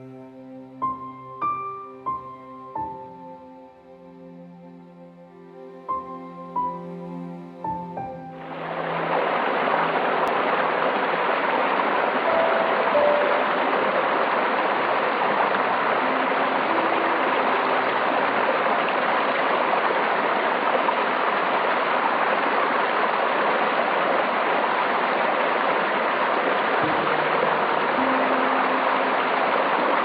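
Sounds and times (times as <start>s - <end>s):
flowing stream: 0.0s - 30.0s.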